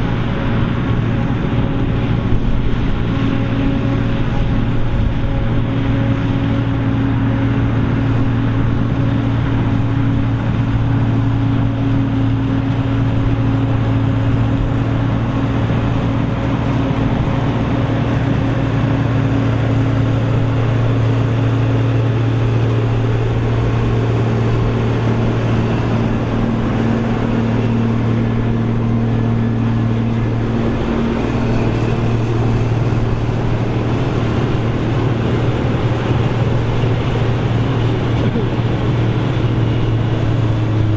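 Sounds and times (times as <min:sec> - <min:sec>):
forage harvester engine humming: 0:00.0 - 0:40.9.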